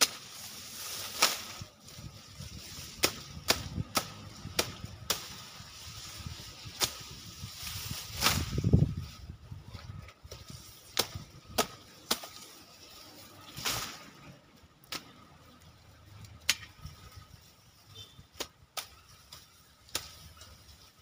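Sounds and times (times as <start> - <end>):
sickle cutting grass stalks: 0.0 - 21.0.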